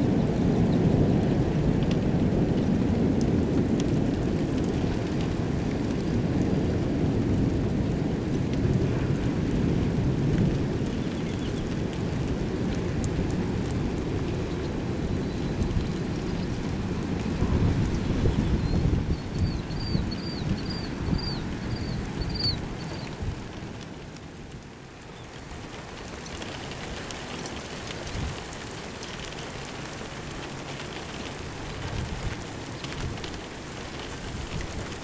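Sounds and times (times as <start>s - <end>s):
steady rain: 0.0s - 35.0s
rain drop ticks: 0.1s - 35.0s.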